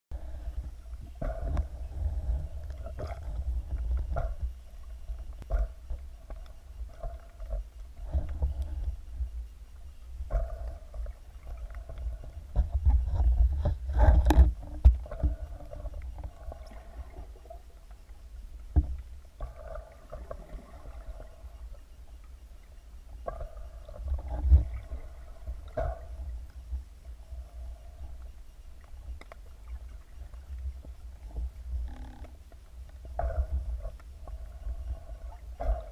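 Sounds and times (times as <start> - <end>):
muffled underwater rumble: 0.1 - 35.9.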